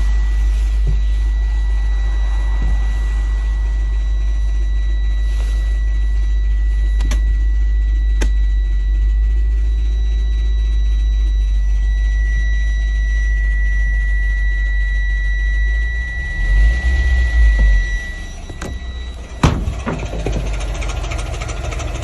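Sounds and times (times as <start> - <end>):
car engine deep rumble: 0.0 - 22.0
high-pitched gearbox whine: 0.0 - 22.0.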